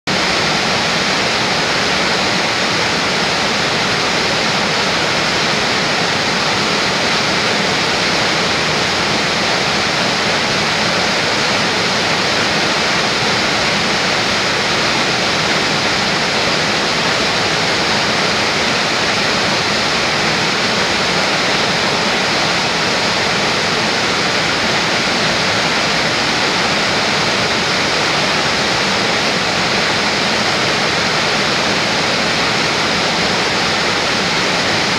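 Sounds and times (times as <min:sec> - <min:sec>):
whitewater rushing over rocks: 0:00.1 - 0:34.9.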